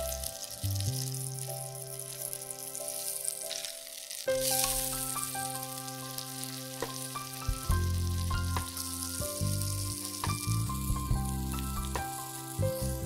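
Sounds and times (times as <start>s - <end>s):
oil sizzling in pan: 0.0s - 13.0s
piano and bass music: 0.0s - 13.0s.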